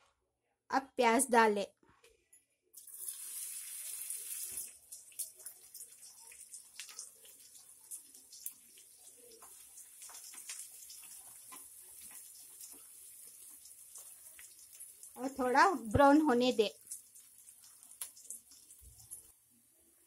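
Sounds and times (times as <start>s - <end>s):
onions sizzling in oil: 2.8s - 20.0s.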